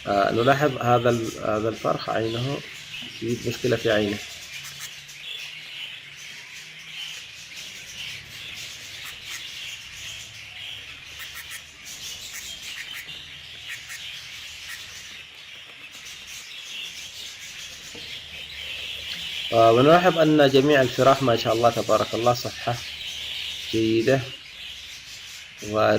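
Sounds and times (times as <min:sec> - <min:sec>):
budgerigars chirping: 0:00.0 - 0:25.9.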